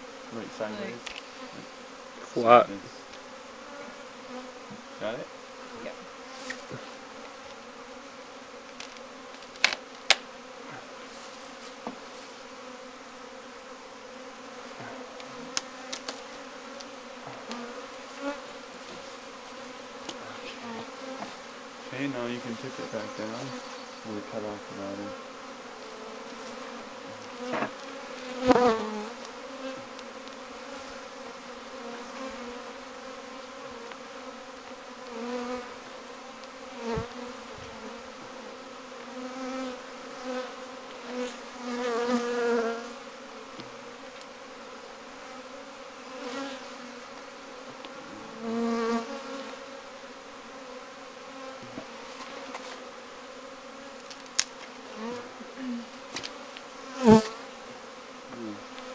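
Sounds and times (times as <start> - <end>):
bees buzzing: 0.0 - 58.9.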